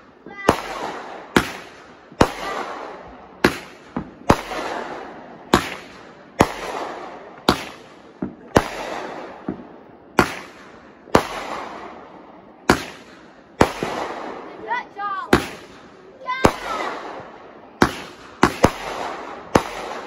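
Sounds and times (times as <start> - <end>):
firework bangs: 0.0 - 20.0.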